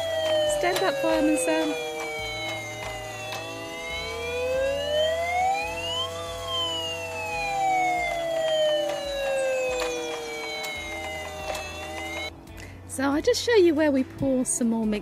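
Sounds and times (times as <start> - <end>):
steady electronic tones: 0.0 - 12.3
toy siren wail: 0.0 - 12.3.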